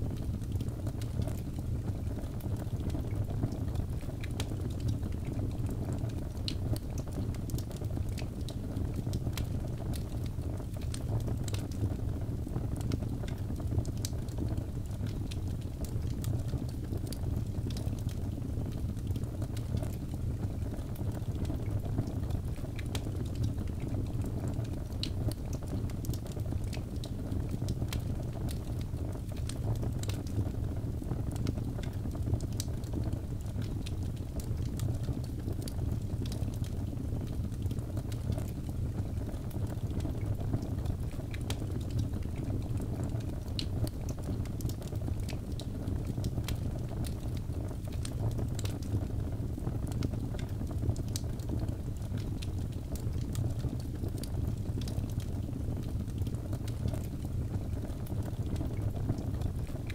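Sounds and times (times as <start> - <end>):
fire crackling and popping: 0.0 - 59.9
fire rumbling: 0.0 - 59.9.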